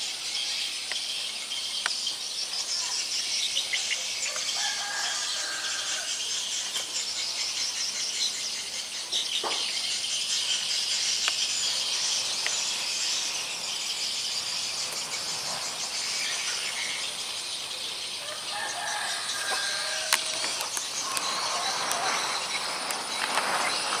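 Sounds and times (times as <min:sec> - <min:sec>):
birds calling: 0:00.0 - 0:24.0
insects hissing: 0:00.0 - 0:24.0.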